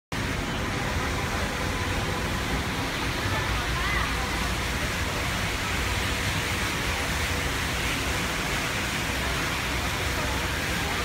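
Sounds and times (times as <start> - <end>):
rushing noise with low rumble: 0.1 - 11.0.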